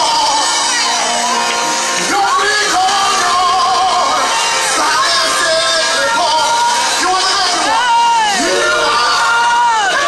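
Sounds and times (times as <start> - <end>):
amplified music: 0.0 - 10.0
congregation singing: 0.0 - 10.0
gospel singing voices: 0.0 - 10.0.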